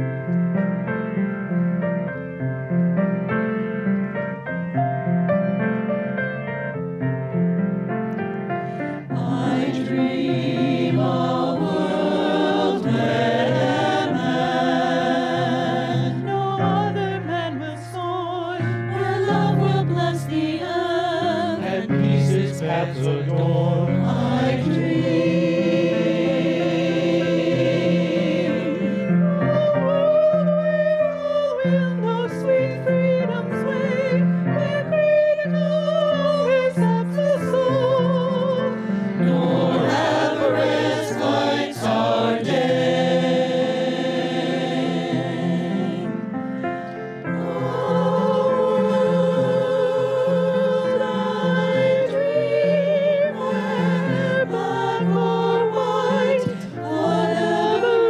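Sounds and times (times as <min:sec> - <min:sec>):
mixed vocal ensemble singing: 0:08.7 - 0:58.0.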